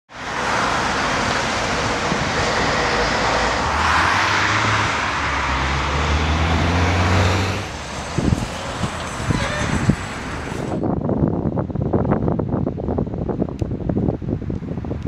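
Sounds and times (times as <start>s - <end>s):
tyre noise of passing cars: 0.1s - 15.0s
low engine hum: 0.2s - 15.0s.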